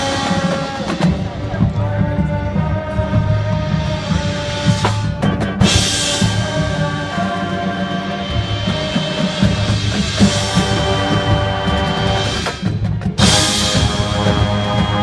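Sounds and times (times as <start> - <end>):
bass drums: 0.0 - 7.5, 8.2 - 15.0
marching band playing: 0.0 - 15.0.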